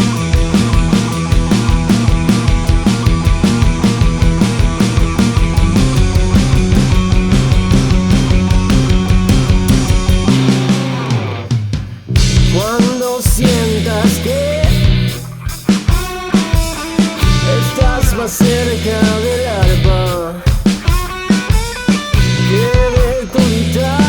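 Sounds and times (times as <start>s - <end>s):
sliding guitar lead line: 0.0s - 12.8s, 13.6s - 20.2s
rock band playing: 0.0s - 24.0s.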